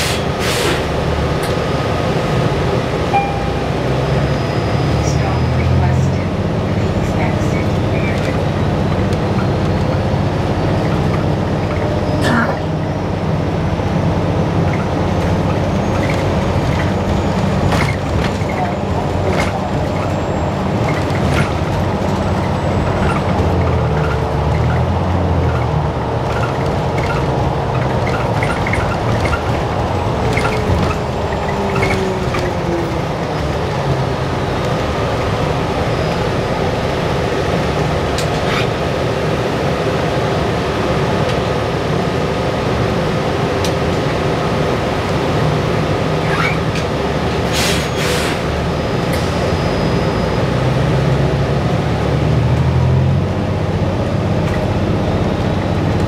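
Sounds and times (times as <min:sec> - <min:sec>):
bus drive and road noise: 0:00.0 - 0:56.0.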